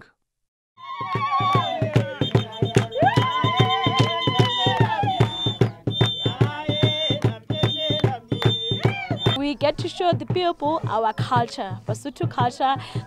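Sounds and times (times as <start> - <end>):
fast steady beat: 0.8 - 13.0
women singing: 0.8 - 13.0.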